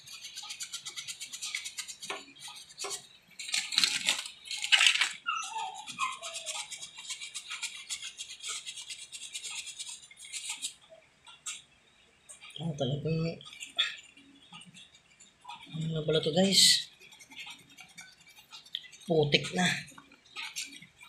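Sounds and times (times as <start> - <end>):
brush scrubbing: 0.0 - 5.0, 5.6 - 10.8, 13.3 - 21.0.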